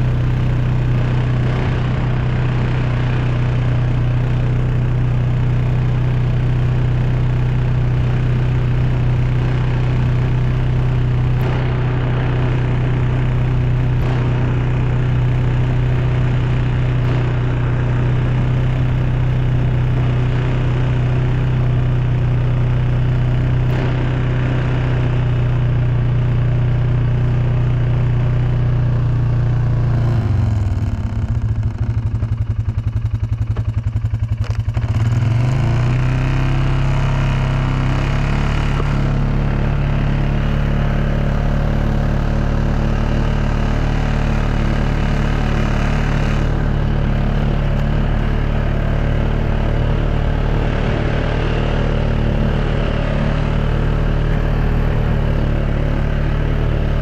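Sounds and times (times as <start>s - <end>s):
engine running with flutter: 0.0s - 57.0s.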